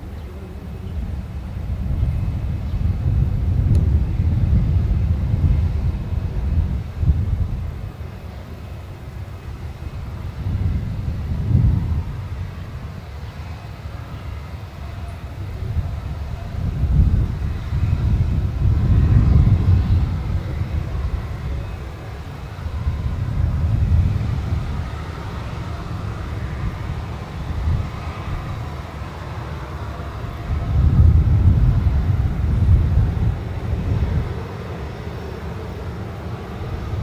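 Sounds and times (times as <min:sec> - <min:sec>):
distant jet airliner rumble: 0:00.0 - 0:37.0.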